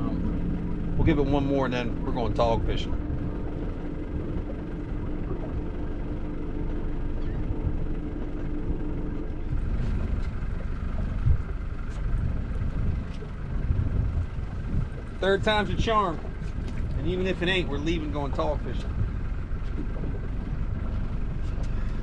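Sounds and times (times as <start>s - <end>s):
steady low hum: 0.0s - 22.0s
wind rumbling on microphone: 0.0s - 22.0s.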